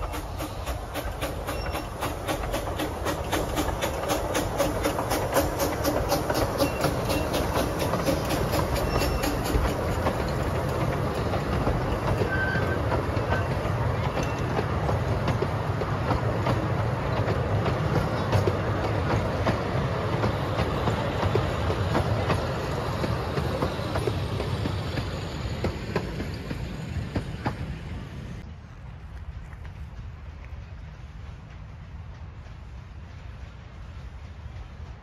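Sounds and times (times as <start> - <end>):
train wheels clicking over rail joints: 0.0 - 35.0.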